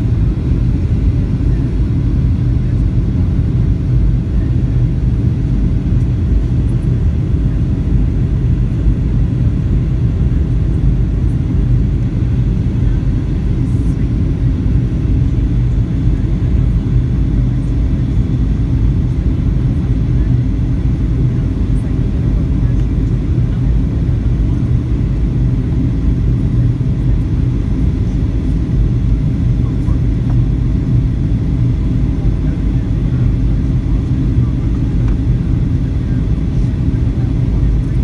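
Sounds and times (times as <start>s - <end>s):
faint steady hum: 0.0s - 38.0s
jet engine rumble in cabin: 0.0s - 38.0s.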